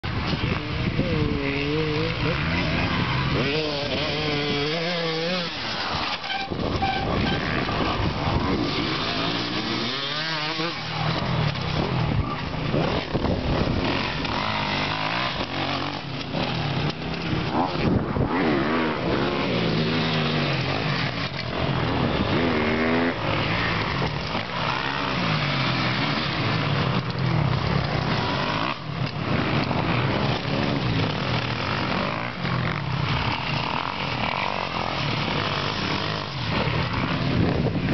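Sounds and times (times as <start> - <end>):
motocross bikes revving past: 0.0 - 37.9.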